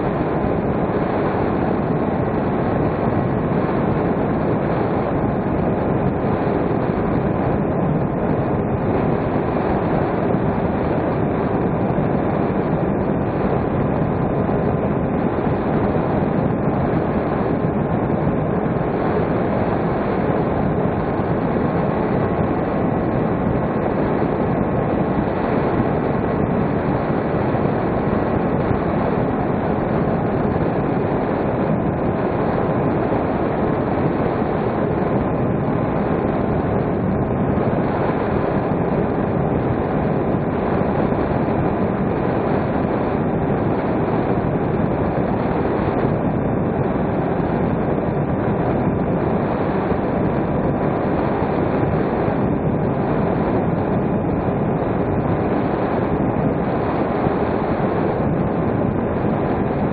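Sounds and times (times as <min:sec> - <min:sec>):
propeller noise: 0:00.0 - 0:59.9.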